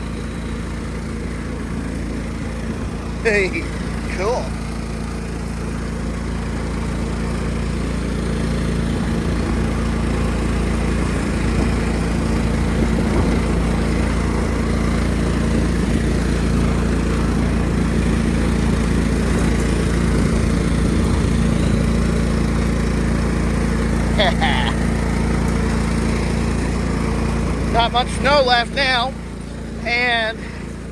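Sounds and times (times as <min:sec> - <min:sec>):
lawn tractor engine running: 0:00.0 - 0:30.9.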